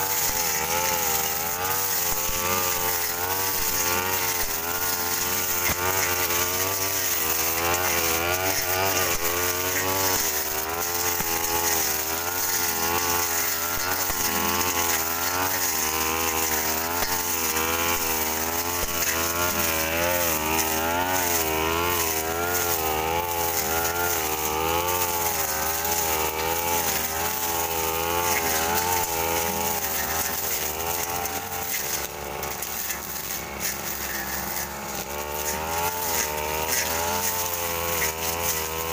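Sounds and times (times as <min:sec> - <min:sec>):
brush cutters running: 0:00.0 - 0:38.9.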